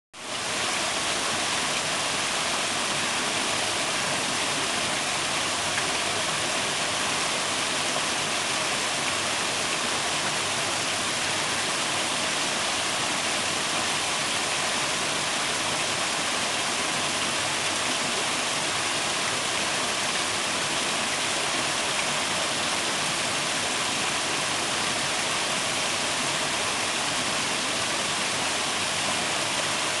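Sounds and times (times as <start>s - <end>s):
waterfall roaring: 0.2s - 30.0s.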